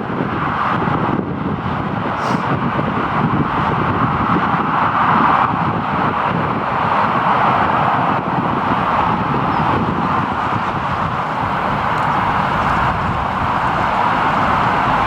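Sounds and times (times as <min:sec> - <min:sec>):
jet engine roar: 0:01.9 - 0:15.0.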